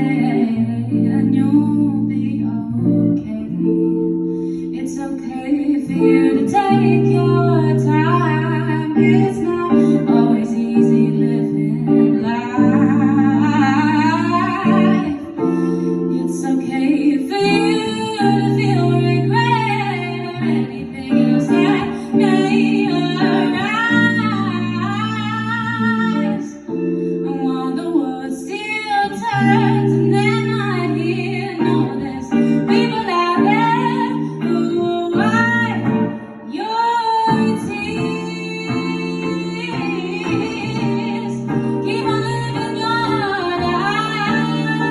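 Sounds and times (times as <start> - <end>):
guitar chords: 0.0 - 44.9
woman singing: 0.0 - 44.9.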